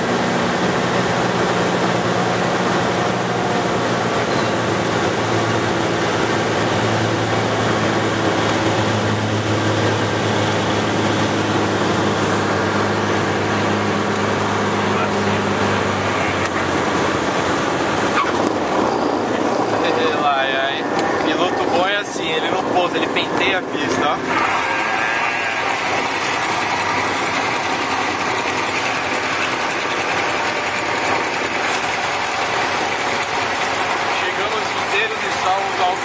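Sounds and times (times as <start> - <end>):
plane engine and propeller drone: 0.0 - 36.0.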